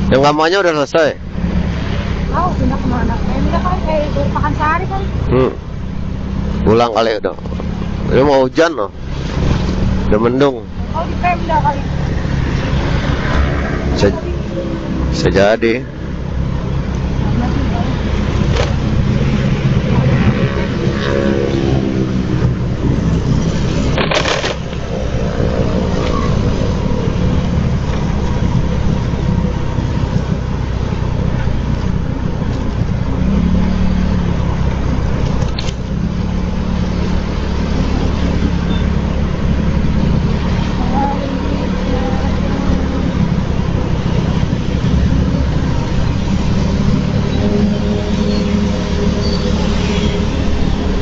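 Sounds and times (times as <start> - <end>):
road and wind noise: 0.0 - 51.0.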